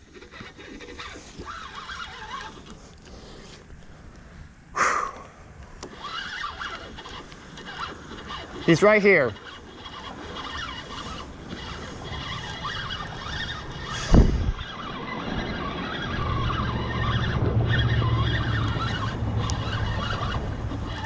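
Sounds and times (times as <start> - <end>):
low rumble of traffic overhead: 0.0 - 21.0.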